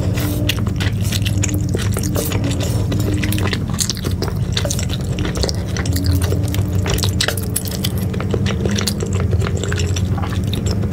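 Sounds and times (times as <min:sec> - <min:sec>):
wet chewing of noodles: 0:00.0 - 0:10.9.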